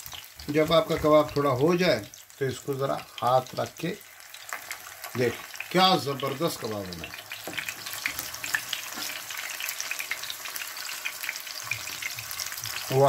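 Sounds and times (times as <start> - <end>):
kebabs frying in oil: 0.0 - 13.0.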